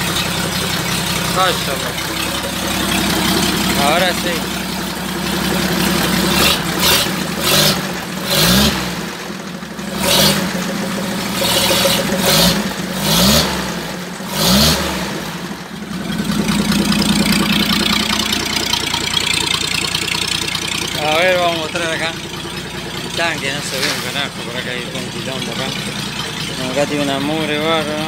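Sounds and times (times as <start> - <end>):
car engine revving and idling: 0.0 - 28.0.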